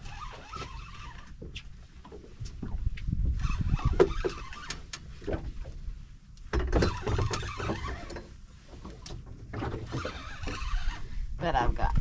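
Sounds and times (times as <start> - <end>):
low rumbling wind: 0.0 - 12.0
water noise: 0.0 - 12.0.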